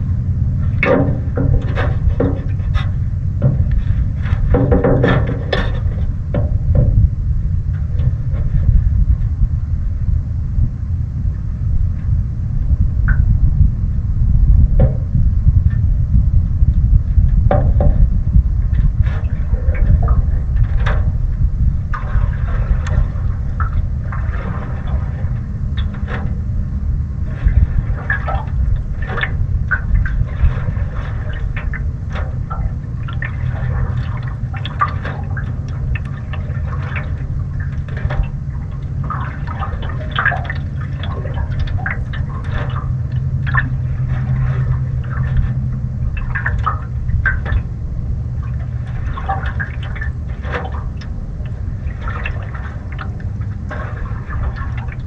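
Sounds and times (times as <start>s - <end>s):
waves lapping against canoe hull: 0.0s - 9.5s, 14.6s - 55.0s
wind buffeting microphone: 0.0s - 55.0s.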